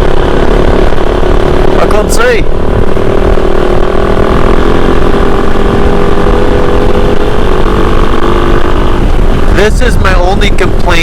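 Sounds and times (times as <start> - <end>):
low rumble: 0.0 - 11.0
motorcycle engine running: 0.0 - 11.0.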